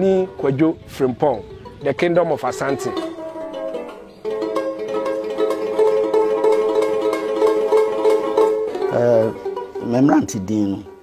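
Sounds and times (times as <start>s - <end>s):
plucked string instrument melody: 0.0s - 11.0s.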